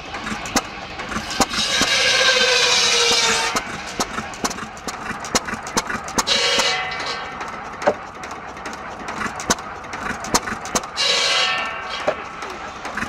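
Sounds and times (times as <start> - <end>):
buzzsaw whining into wood: 0.0 - 7.6, 9.1 - 13.0
gasoline engine popping: 0.0 - 13.0.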